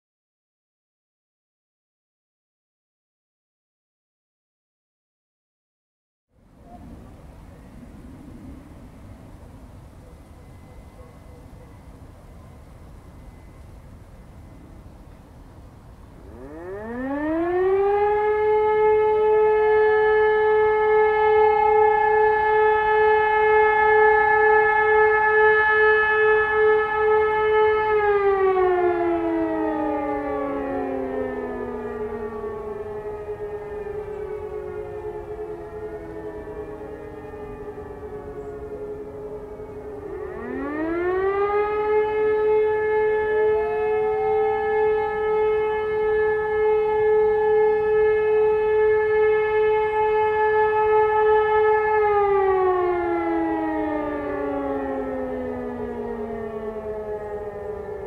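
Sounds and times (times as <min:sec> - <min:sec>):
another motor siren howling: 0:06.3 - 0:58.0
motor sirens howling: 0:06.3 - 0:58.0.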